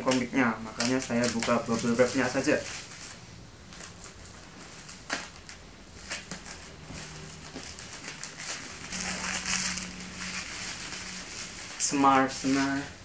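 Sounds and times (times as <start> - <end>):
bubble wrap crackling: 0.0 - 13.0
plastic rustle: 0.0 - 13.0.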